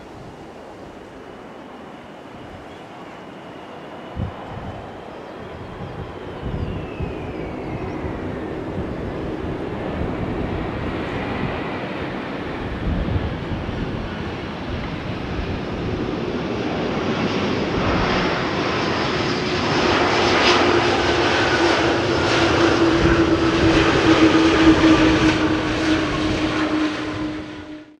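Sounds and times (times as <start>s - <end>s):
jet engines rumbling: 0.0s - 28.0s
wind buffeting microphone: 4.0s - 27.8s.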